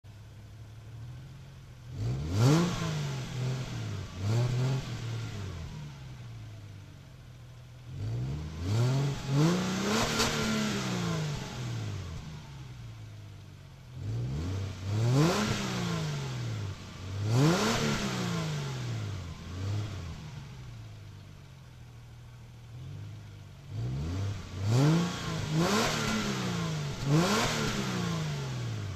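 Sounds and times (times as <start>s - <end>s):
car engine revving: 0.1s - 28.9s.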